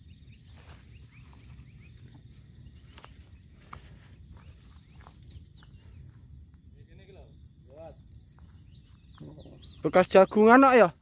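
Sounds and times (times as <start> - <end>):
low wind rumble on microphone: 0.0 - 10.0.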